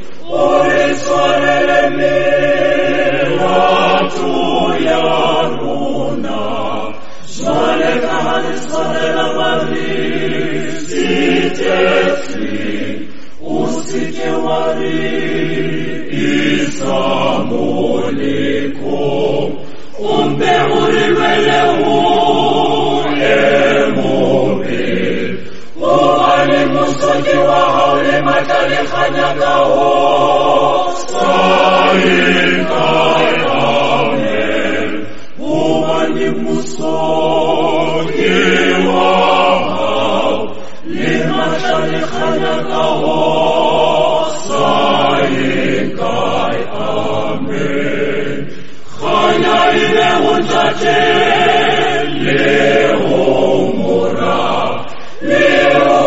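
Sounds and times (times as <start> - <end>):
group singing a hymn: 0.0 - 56.0.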